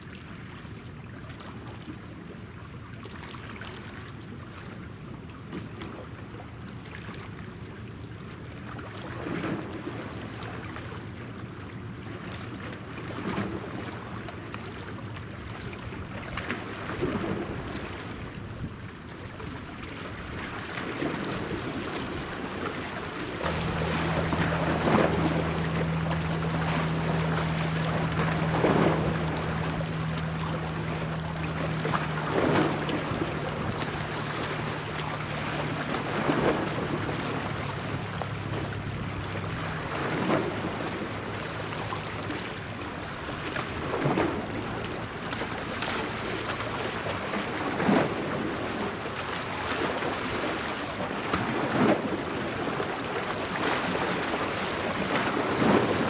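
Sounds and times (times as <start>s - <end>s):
small waves washing ashore: 0.0s - 56.0s
low machinery hum: 4.2s - 56.0s.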